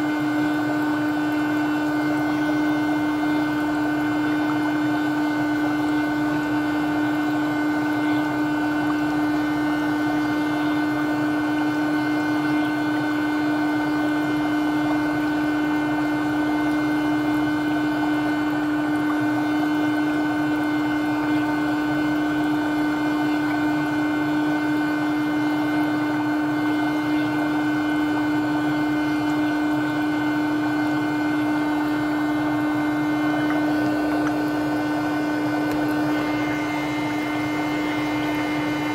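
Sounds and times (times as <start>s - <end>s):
foot spa motor hum: 0.0s - 38.9s
water bubbling: 0.0s - 38.9s.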